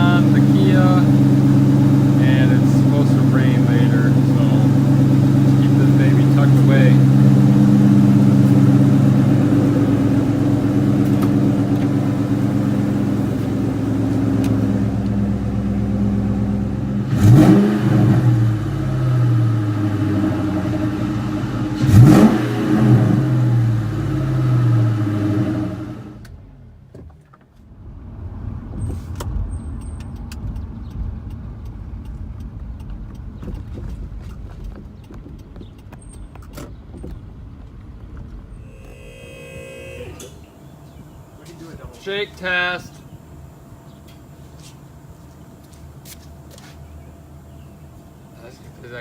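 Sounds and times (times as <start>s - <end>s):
car engine idling: 0.0s - 49.0s
engine throttle blips: 0.0s - 49.0s.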